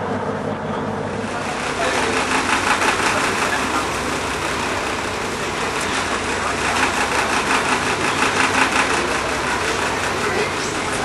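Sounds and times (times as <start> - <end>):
ferry engine drone: 0.0 - 11.0
indistinct chatter: 0.0 - 11.0.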